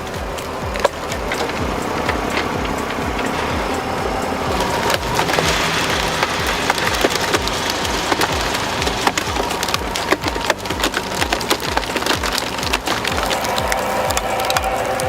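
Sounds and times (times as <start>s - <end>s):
low regular pulsing: 0.0s - 15.0s
wood cracking and splintering: 0.0s - 15.0s.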